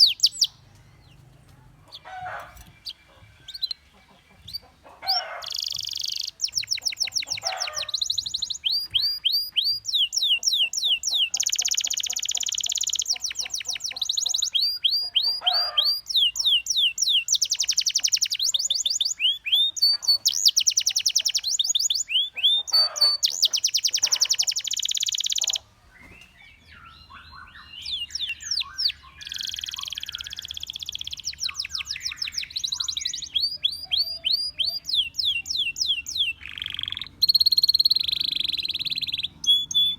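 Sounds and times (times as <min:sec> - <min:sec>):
canary singing rapid rolls: 0:00.0 - 0:39.9.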